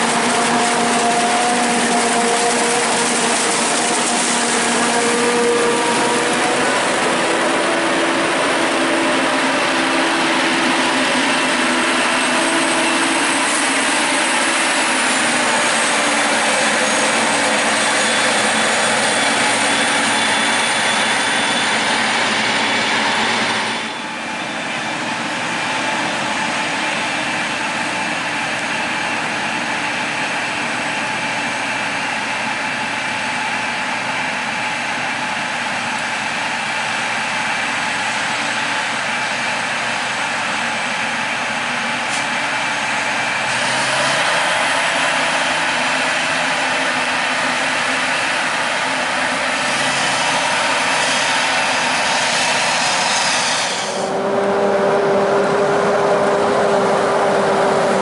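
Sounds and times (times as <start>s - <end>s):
thin high whine: 0.0s - 34.6s, 42.0s - 58.0s
diesel machinery running: 0.0s - 58.0s.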